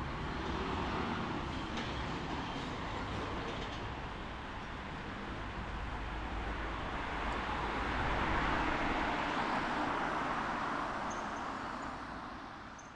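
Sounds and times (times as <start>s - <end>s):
low traffic rumble: 0.0s - 12.9s.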